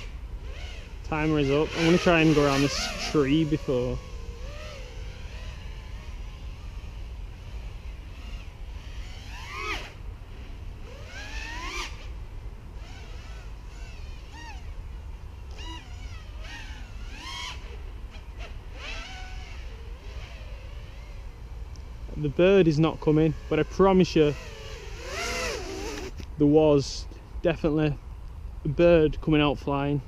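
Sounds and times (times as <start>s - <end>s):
drone motor whine: 0.0s - 26.3s.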